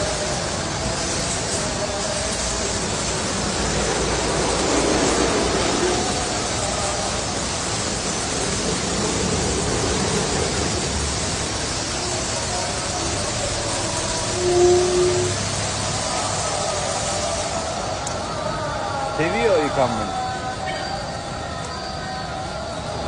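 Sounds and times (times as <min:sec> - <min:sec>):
water spray hissing: 0:00.0 - 0:20.4.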